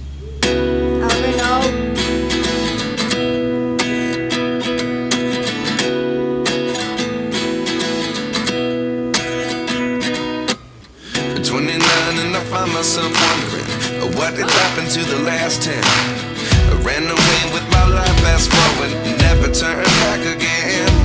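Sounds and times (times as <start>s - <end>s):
strummed acoustic guitar chords: 0.0s - 21.0s.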